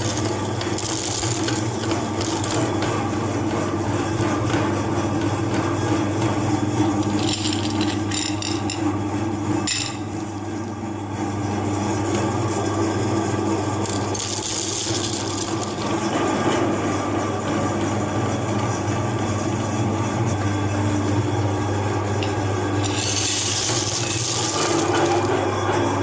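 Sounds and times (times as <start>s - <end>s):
grinder scraping and crunching: 0.0s - 10.5s, 11.7s - 26.0s
meat grinder motor hum: 0.0s - 26.0s.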